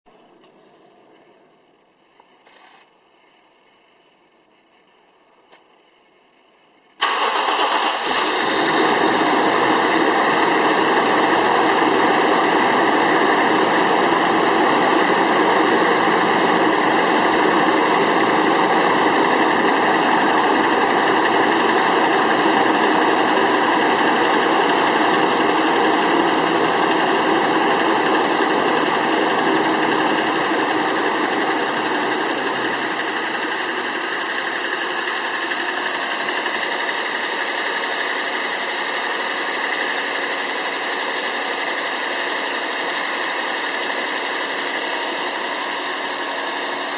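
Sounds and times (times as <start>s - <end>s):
car engine starting and idling: 7.0s - 46.9s
loud steady fan noise: 7.0s - 46.9s.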